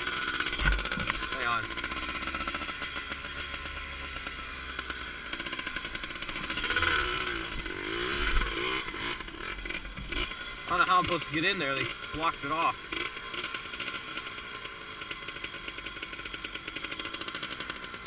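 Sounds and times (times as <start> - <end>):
two-stroke dirt bike engine: 0.0 - 18.0.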